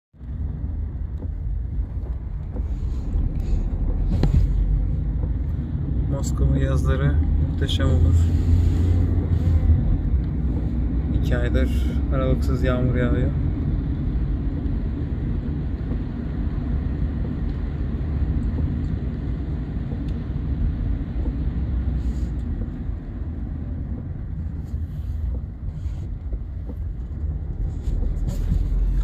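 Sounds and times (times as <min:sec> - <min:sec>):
low outdoor rumble: 0:00.2 - 0:29.0.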